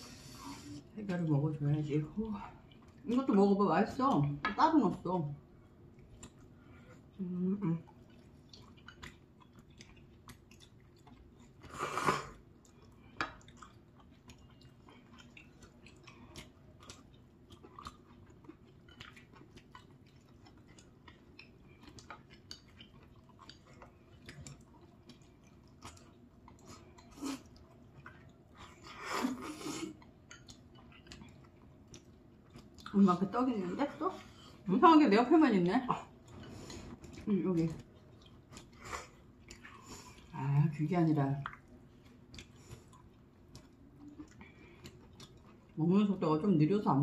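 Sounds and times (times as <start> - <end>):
chewing noodles and rice cakes: 0.0 - 47.0.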